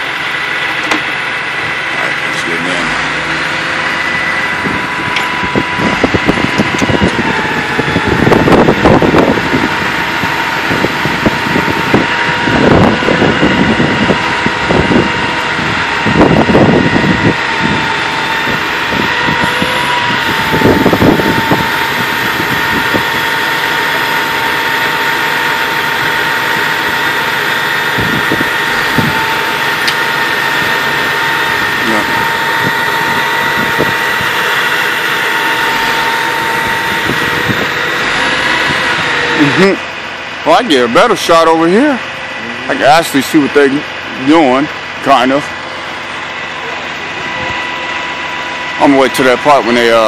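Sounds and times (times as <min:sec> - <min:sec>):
truck engine idling with whine: 0:00.0 - 0:50.0.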